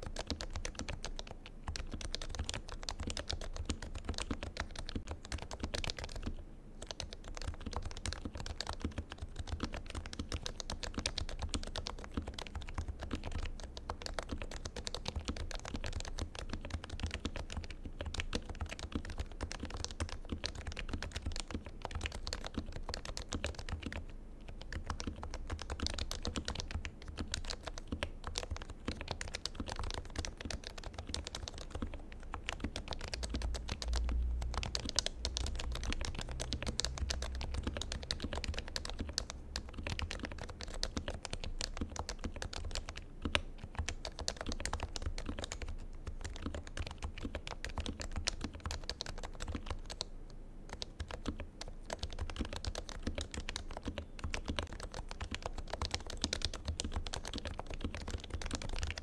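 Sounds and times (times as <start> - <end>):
fast keyboard typing: 0.0 - 50.1, 50.7 - 59.0.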